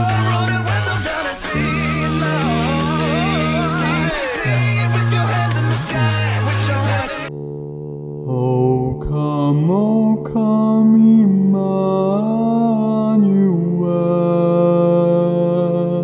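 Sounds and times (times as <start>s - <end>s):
man singing wordless line: 0.0s - 7.3s, 8.2s - 16.0s
low bass voice drone: 0.0s - 16.0s.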